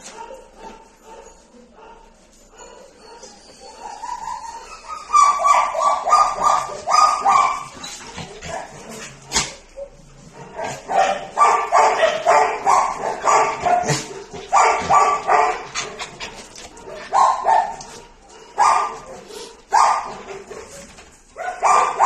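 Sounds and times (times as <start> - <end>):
dog barking: 0.0 - 15.9, 16.8 - 20.8, 21.4 - 22.0.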